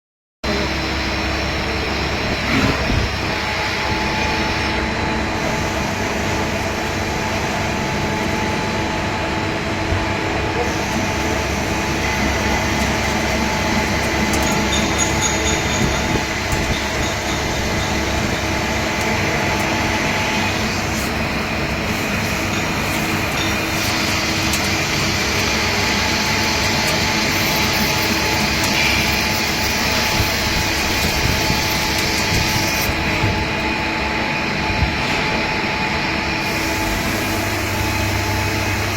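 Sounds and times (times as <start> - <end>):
dense mechanical machine noise: 0.4 - 38.9.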